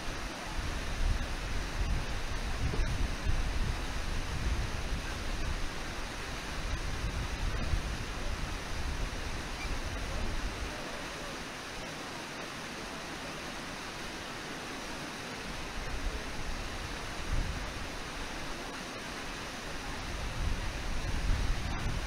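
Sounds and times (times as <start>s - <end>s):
waterfall and rapids rushing: 0.0s - 22.0s.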